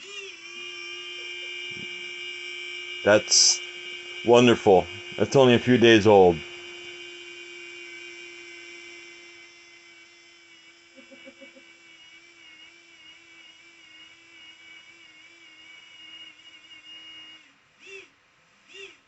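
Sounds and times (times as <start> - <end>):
printer cooling fan whining: 0.0 - 19.0.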